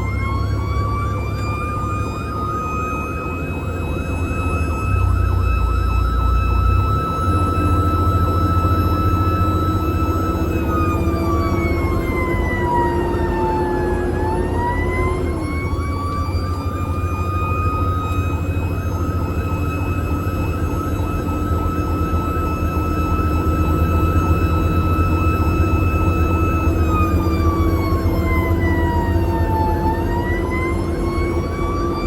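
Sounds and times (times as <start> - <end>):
fire engine rumble: 0.0 - 32.0
high sliding whine: 0.0 - 32.0.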